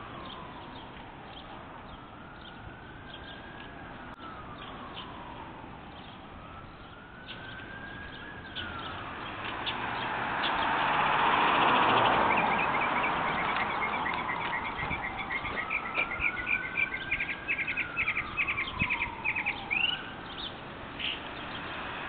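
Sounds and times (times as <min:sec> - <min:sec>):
distant siren wailing: 0:00.0 - 0:22.0
traffic rushing: 0:00.0 - 0:22.0
sparrows chirping: 0:00.1 - 0:22.0.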